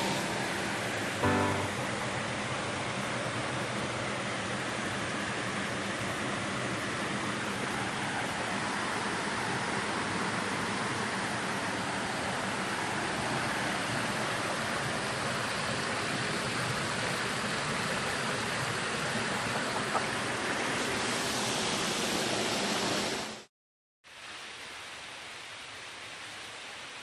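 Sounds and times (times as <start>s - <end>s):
waterfall rushing: 0.0s - 23.5s.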